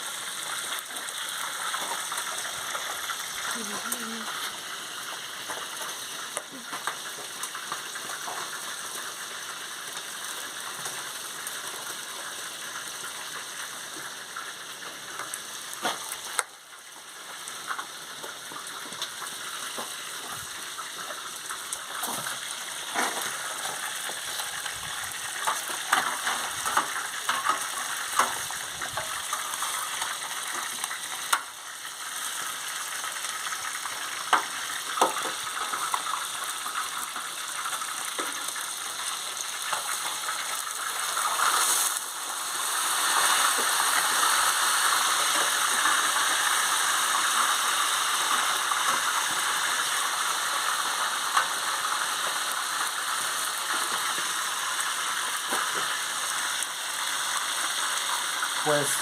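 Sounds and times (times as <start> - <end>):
fish frying in hot oil: 0.0 - 59.0.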